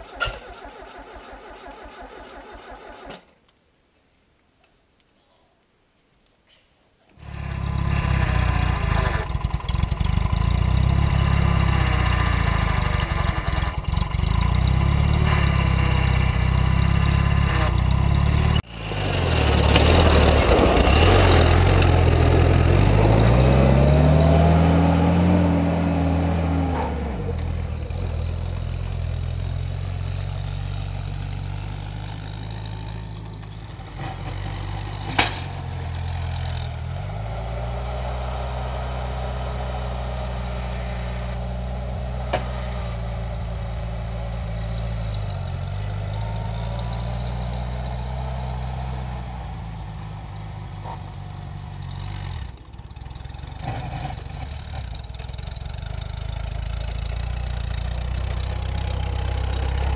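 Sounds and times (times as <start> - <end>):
tractor engine running: 7.2 - 59.9.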